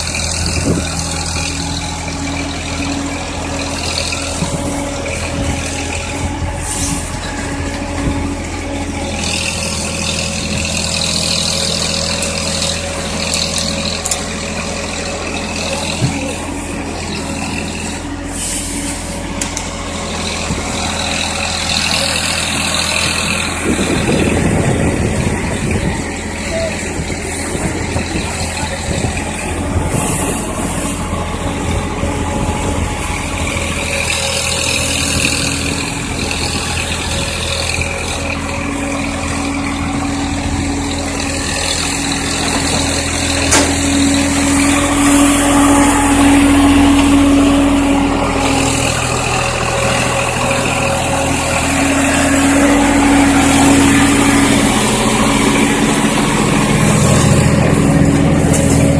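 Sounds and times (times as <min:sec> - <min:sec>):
diesel tractor engine running: 0:00.0 - 0:58.9.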